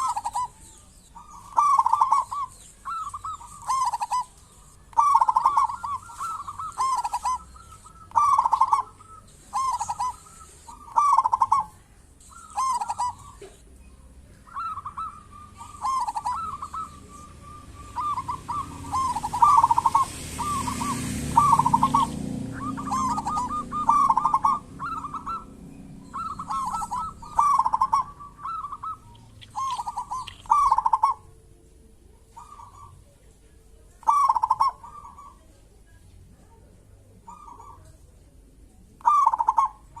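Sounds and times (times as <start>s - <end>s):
dove cooing: 0.0s - 33.2s, 33.8s - 35.6s, 37.1s - 38.0s, 39.0s - 40.0s.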